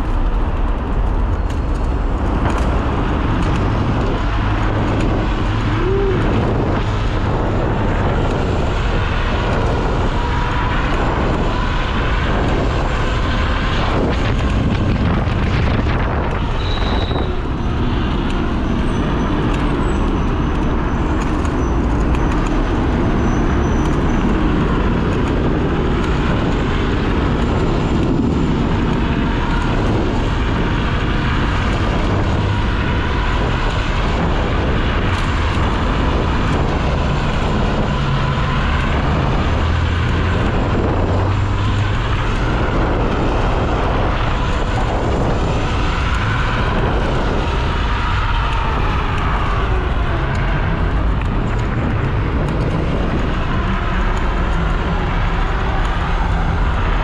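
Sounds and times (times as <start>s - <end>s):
traffic roaring in a tunnel: 0.0s - 57.0s.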